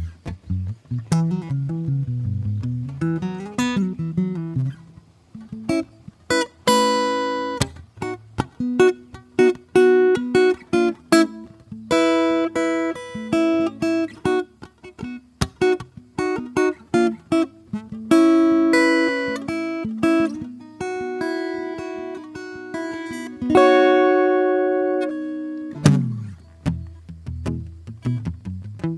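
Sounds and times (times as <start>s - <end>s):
acoustic guitar played softly: 0.0s - 28.9s.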